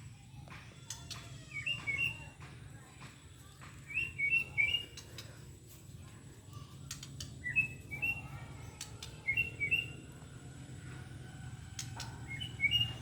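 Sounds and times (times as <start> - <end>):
bird chirping song: 0.0 - 13.0.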